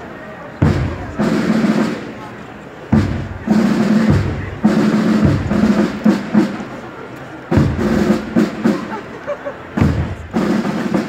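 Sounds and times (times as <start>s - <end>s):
marching drums beating: 0.6s - 2.2s, 2.9s - 6.9s, 7.5s - 11.0s.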